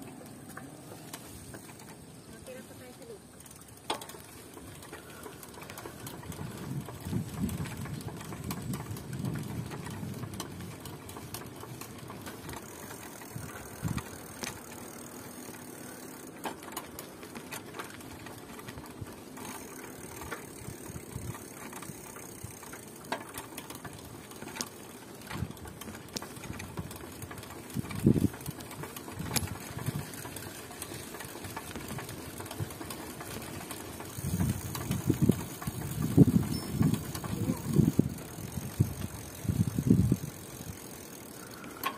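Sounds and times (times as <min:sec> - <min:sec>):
bike riding rumble: 0:00.0 - 0:41.9
bike knocks and rattles: 0:03.7 - 0:41.9.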